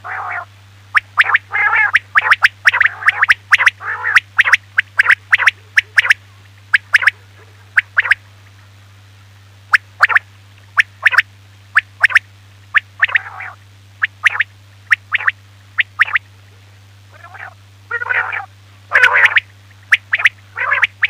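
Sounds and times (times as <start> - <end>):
quail calling: 0.0 - 8.4, 9.7 - 10.2, 10.8 - 16.2, 17.1 - 21.0
low hum: 0.0 - 21.0.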